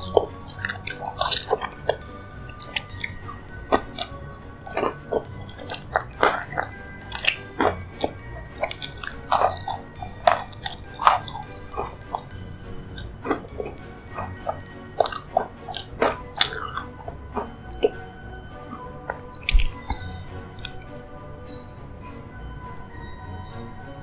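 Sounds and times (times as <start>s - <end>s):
chewing and wet mouth smacks: 0.0s - 20.9s
soft background music: 0.0s - 24.0s.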